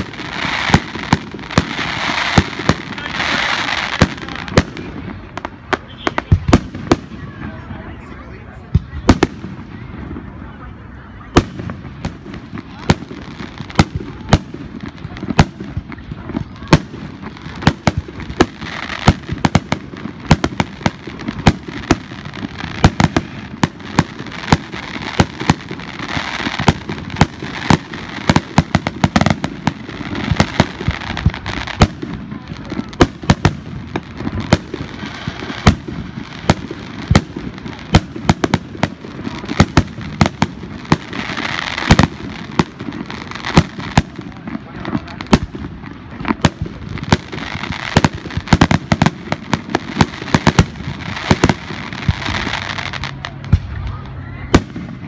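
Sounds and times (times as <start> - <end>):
fireworks bursting with sharp bangs: 0.0 - 55.0.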